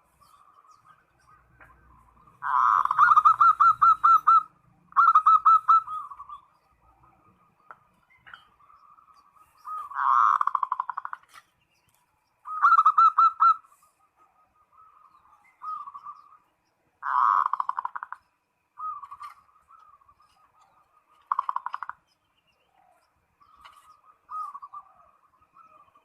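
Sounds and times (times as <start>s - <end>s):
dove cooing trills: 0.0s - 11.4s, 12.4s - 22.0s, 22.6s - 26.0s.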